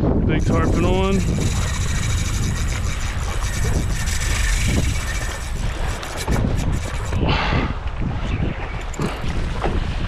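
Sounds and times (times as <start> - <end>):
strong wind buffeting microphone: 0.0 - 10.0
waves sloshing against kayak: 0.1 - 10.0.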